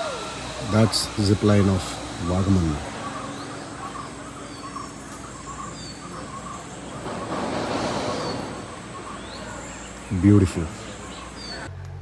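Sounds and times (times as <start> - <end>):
faint bird chirps: 0.0 - 11.7.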